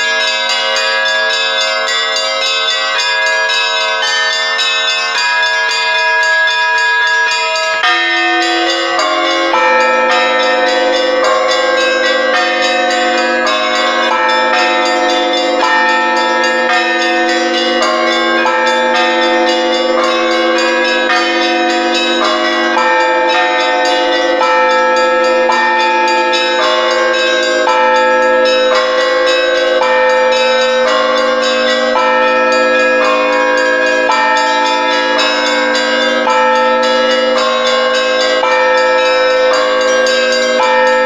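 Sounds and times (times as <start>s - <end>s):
deep bells humming: 0.0s - 41.0s
small church bells striking: 0.0s - 41.0s.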